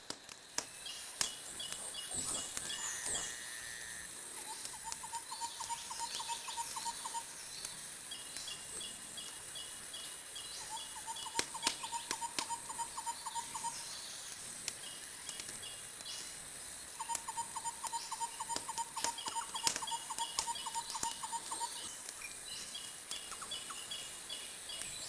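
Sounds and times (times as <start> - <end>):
wood fire crackling and popping: 0.0 - 2.9, 4.4 - 6.8, 7.4 - 10.2, 10.9 - 12.8, 13.8 - 17.3, 18.0 - 25.0
steady high hiss: 0.0 - 25.0
faint higher chirping: 0.7 - 14.3, 15.6 - 25.0
rhythmic chirping call: 1.0 - 14.2, 16.9 - 25.0.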